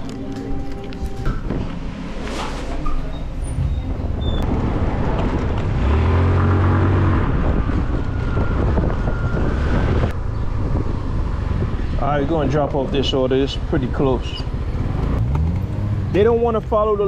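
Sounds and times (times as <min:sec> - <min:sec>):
city traffic: 0:00.0 - 0:17.0.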